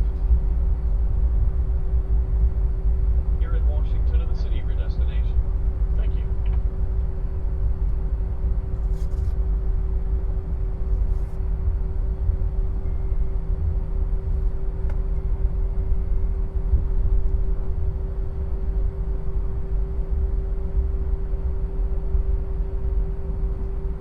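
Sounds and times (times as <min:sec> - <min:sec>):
airliner cabin rumble: 0:00.0 - 0:24.0
constant hum: 0:00.0 - 0:24.0.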